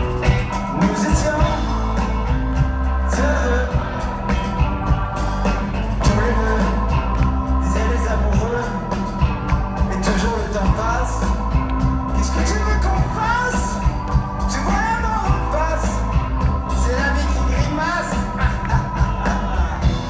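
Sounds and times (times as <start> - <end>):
live rock band: 0.0 - 20.0
person singing: 0.6 - 20.0.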